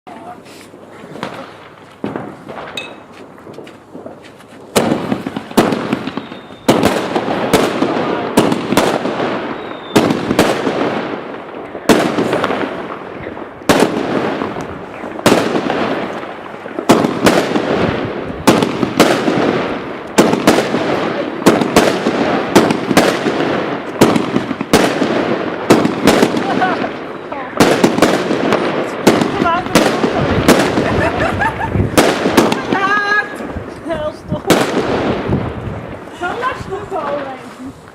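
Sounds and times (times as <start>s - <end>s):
firework bangs: 0.1s - 37.9s
firework crackling: 0.1s - 37.9s.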